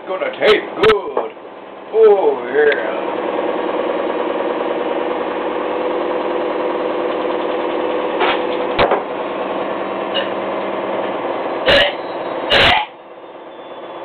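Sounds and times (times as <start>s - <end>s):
small motor humming: 2.5s - 14.0s.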